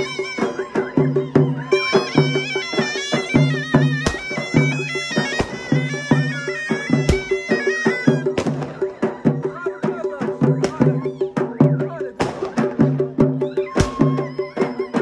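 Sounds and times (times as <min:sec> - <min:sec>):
large drums beaten with sticks: 0:00.0 - 0:15.0
shawm playing folk melody: 0:00.0 - 0:15.0.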